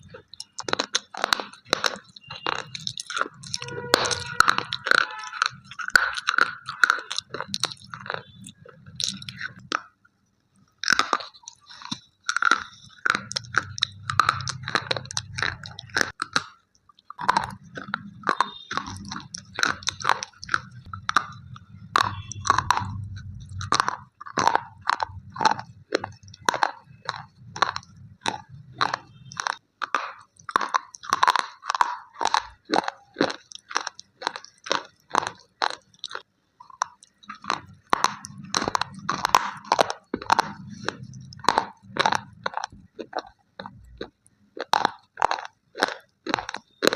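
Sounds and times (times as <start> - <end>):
slate pencils crunching when chewed: 0.0 - 46.9.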